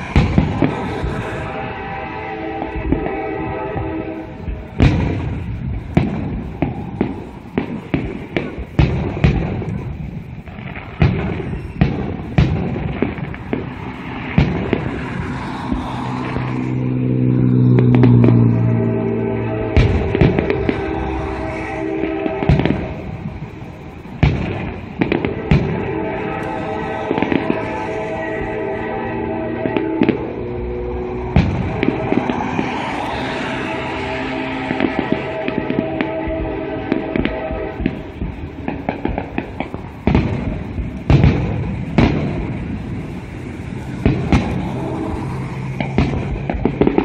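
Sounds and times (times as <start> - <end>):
fireworks bursting with booms: 0.0 - 16.8, 19.6 - 47.0.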